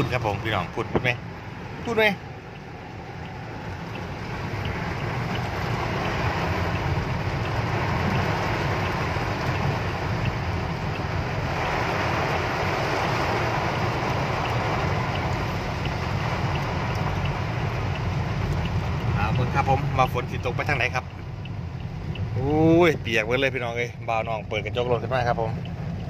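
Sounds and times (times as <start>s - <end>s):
rain on car glass and body: 0.0s - 26.0s
tyres on flooded road: 0.0s - 26.0s.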